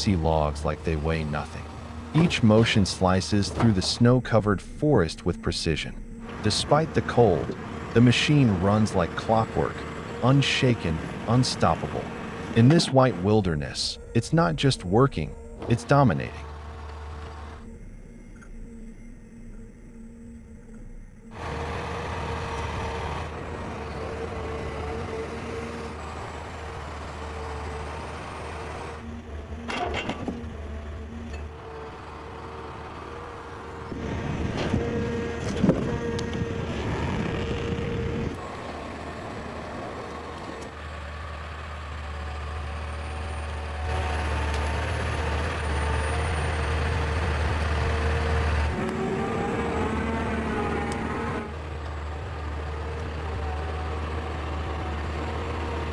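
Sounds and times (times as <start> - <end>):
diesel engine running: 0.0 - 17.8, 21.2 - 55.9.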